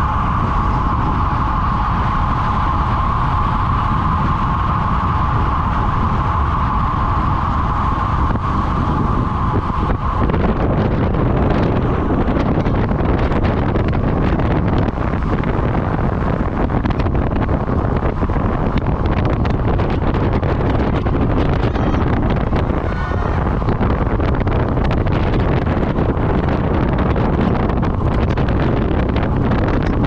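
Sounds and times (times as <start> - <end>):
wind buffeting on microphone: 0.0 - 30.0.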